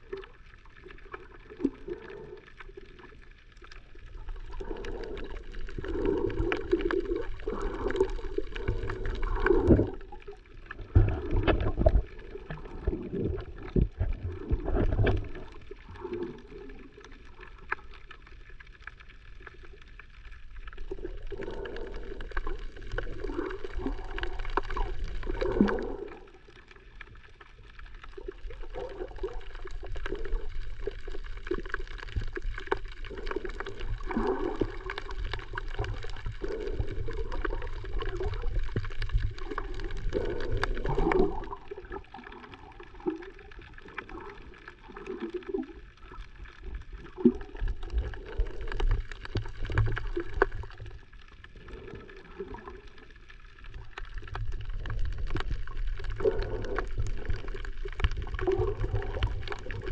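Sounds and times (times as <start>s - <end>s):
low underwater rumble: 0.0s - 59.9s
underwater gurgling and sloshing: 0.0s - 59.9s.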